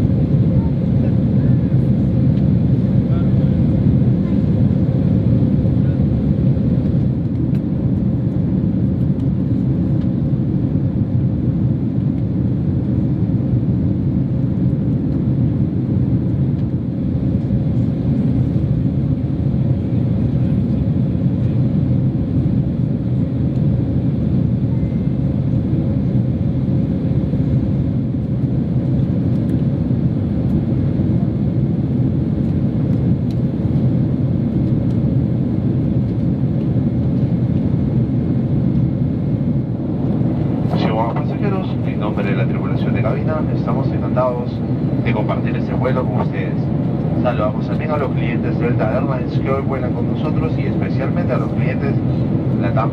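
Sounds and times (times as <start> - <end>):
airplane cabin engine drone: 0.0 - 52.9.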